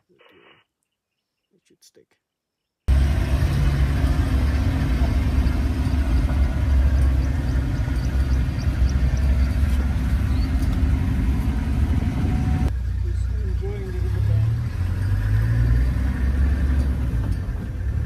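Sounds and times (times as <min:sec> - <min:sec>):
moving vehicle noise: 0:02.9 - 0:18.0
vehicle engine rumbling: 0:02.9 - 0:18.0.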